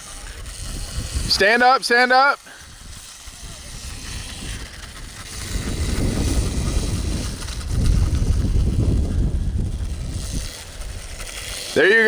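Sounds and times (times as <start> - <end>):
wind buffeting microphone: 0.0 - 1.6, 2.6 - 11.8.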